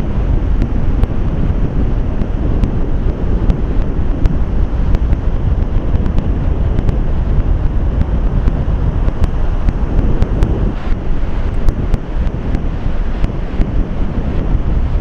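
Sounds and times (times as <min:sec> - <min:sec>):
heavy low rumble: 0:00.0 - 0:15.0
wind buffeting microphone: 0:00.0 - 0:15.0.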